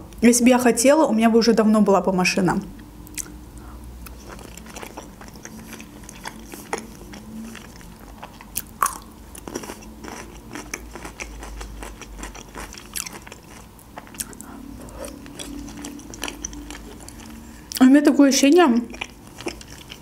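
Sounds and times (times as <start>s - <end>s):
chewing and crunching pickle: 3.0s - 20.0s.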